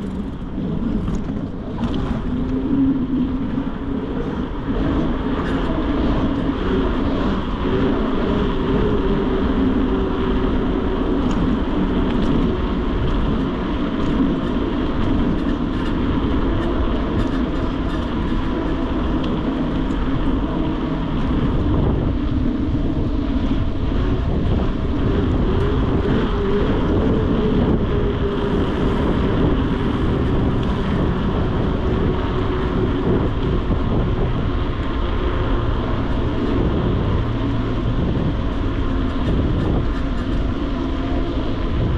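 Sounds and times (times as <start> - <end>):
bike tyres humming on pavement: 0.0 - 41.9
wind rushing over microphone: 0.0 - 41.9.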